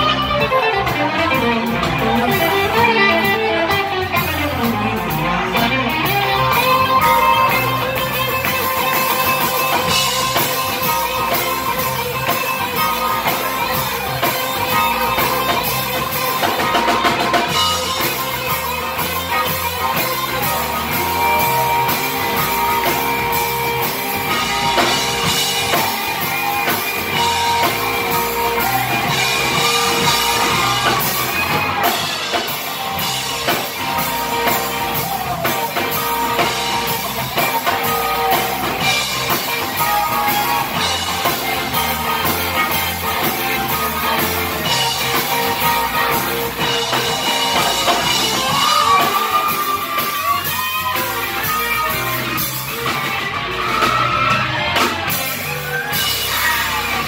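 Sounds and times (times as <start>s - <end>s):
bass guitar: 0.0s - 57.0s
drums: 0.0s - 57.0s
lead electric guitar: 0.0s - 57.0s.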